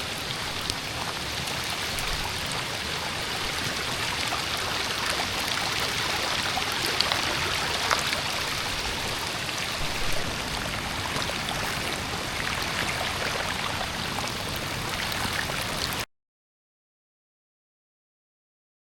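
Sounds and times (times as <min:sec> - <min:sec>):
small water splashes: 0:00.0 - 0:16.0
water rushing down gravel: 0:00.0 - 0:16.1.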